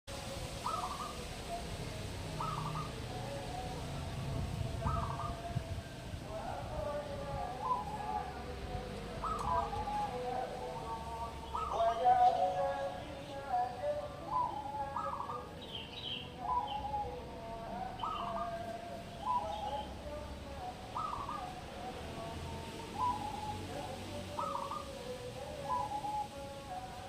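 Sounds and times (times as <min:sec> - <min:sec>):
dove cooing: 0:00.5 - 0:27.0.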